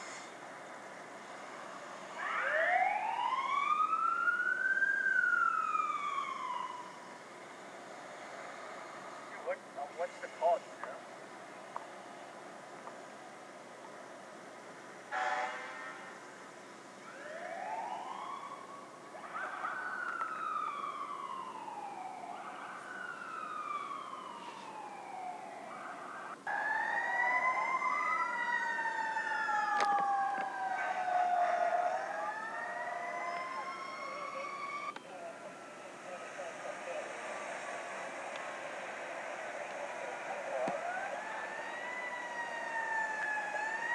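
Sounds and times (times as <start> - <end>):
fire truck sirens wailing: 0.0 - 13.4, 15.0 - 16.3, 17.0 - 43.9.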